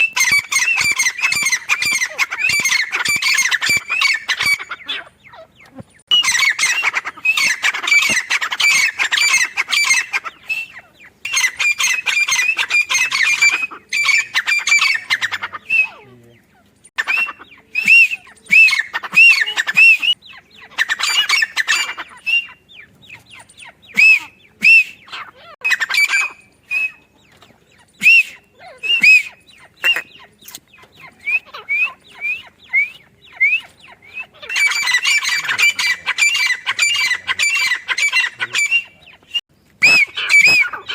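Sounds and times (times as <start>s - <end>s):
francolin calling: 0.0s - 40.9s.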